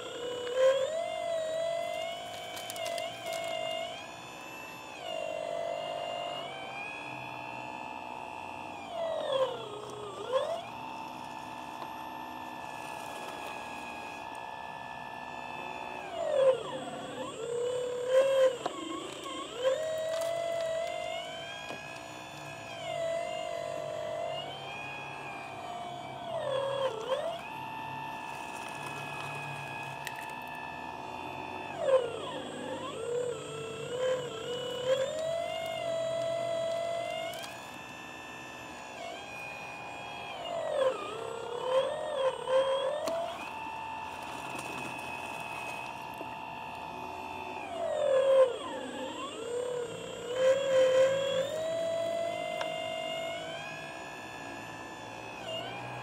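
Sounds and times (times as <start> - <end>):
toy excavator motor whining: 0.0 - 56.0.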